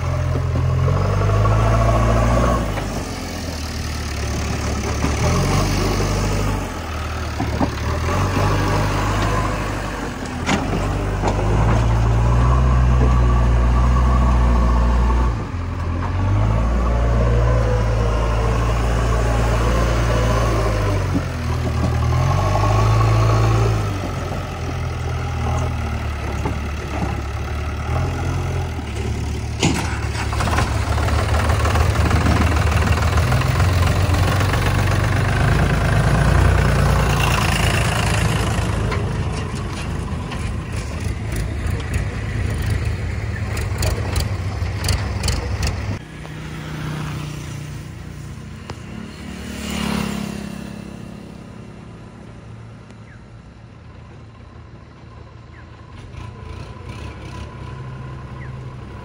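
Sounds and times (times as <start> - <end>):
diesel engines revving: 0.0 - 59.0
tractor engine approaching: 0.0 - 59.0.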